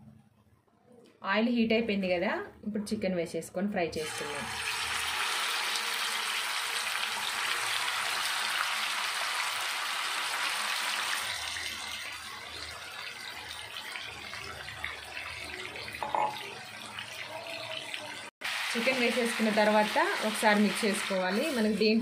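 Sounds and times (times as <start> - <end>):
chicken sizzling in hot oil: 4.0 - 22.0.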